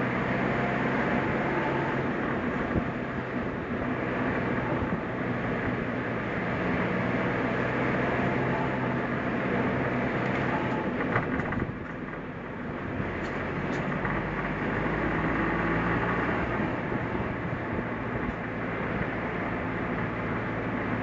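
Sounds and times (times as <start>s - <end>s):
car engine running: 0.0s - 21.0s
tyre and road noise: 0.0s - 21.0s.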